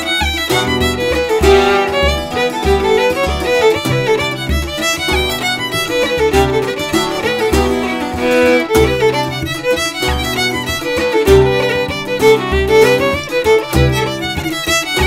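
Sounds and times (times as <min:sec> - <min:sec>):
bouzouki strumming: 0:00.0 - 0:15.0
fiddle playing fast melody: 0:00.0 - 0:15.0
frame drum thuds: 0:00.6 - 0:14.6.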